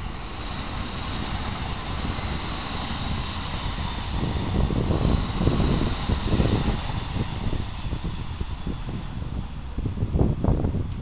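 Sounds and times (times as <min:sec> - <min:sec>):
electric train rumbling past: 0:00.0 - 0:11.0.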